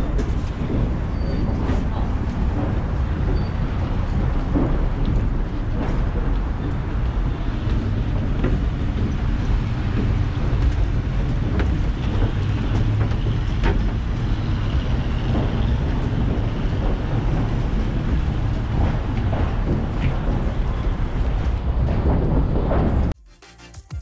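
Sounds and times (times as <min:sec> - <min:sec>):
passing vehicles rumbling: 0:00.0 - 0:23.2.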